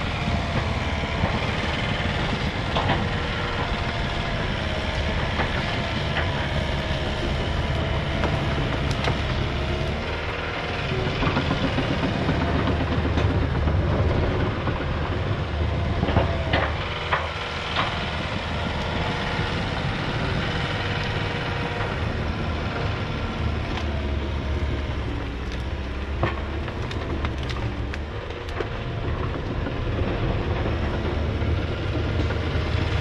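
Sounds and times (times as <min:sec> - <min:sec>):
excavator diesel engine: 0:00.0 - 0:33.0
wood cracking and clanks: 0:00.0 - 0:33.0.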